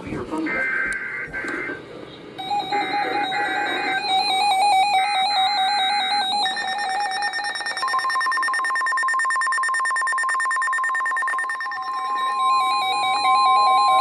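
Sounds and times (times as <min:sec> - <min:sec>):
long steady warning alarm tone: 0:00.5 - 0:01.8, 0:02.4 - 0:14.0
steady beeping alarm tone: 0:00.5 - 0:01.8, 0:02.4 - 0:14.0
higher alarm tone: 0:02.4 - 0:14.0
warbling digital data bursts: 0:02.4 - 0:14.0.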